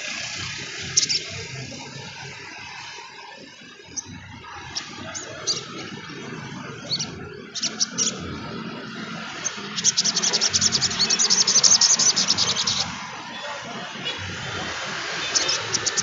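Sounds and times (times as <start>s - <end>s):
songbird twittering chatter: 0.0s - 16.0s.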